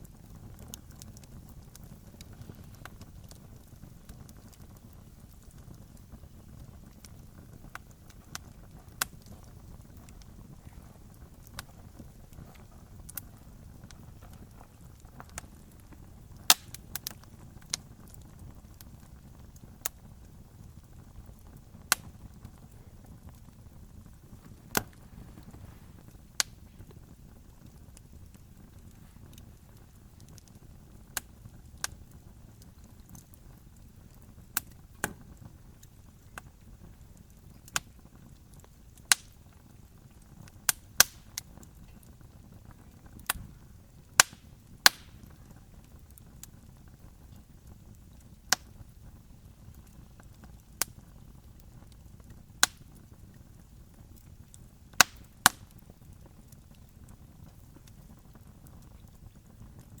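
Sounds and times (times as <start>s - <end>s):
faint low hiss: 0.0s - 60.0s
wood fire crackling: 0.0s - 60.0s.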